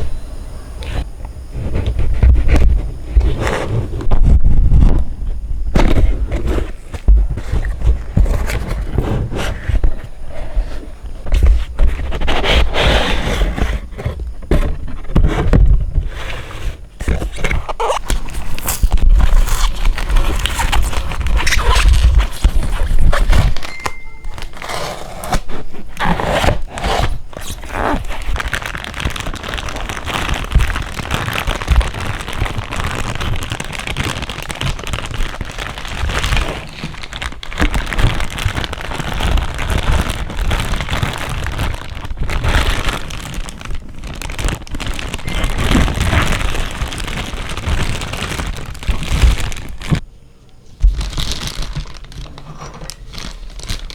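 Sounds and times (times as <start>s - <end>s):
plastic wrapping crinkling: 5.8s - 53.9s.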